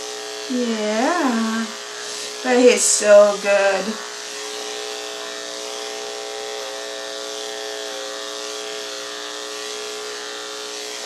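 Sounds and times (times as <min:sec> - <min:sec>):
electric clippers humming: 0:00.0 - 0:11.0.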